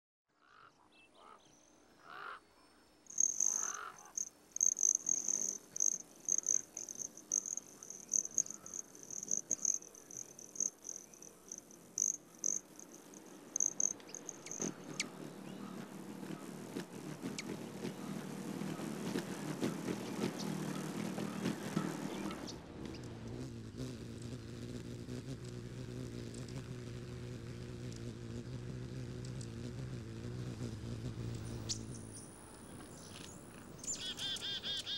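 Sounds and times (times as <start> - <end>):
outdoor background noise: 0.3 - 34.9
hummingbird wings humming: 3.1 - 34.9
insect chirring: 3.1 - 34.9.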